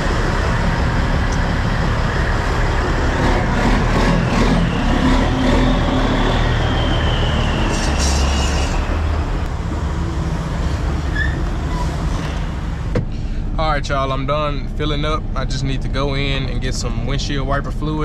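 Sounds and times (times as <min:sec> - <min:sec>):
vehicle engine and traffic: 0:00.0 - 0:18.0.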